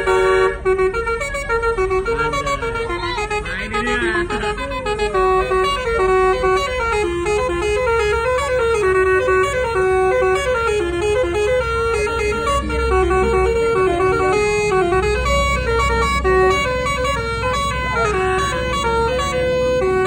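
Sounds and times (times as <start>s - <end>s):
bus air horns playing melody: 0.0s - 20.0s.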